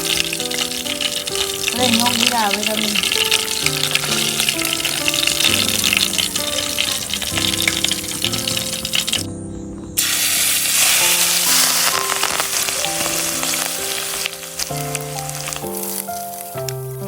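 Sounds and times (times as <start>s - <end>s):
food sizzling in hot oil: 0.0s - 9.3s, 10.0s - 17.0s
background music of held notes: 0.0s - 17.0s.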